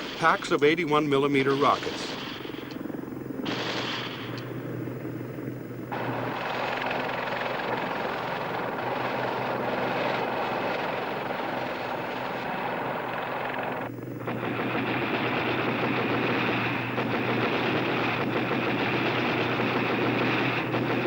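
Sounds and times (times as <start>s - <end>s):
helicopter rotor and turbine: 0.0s - 21.0s.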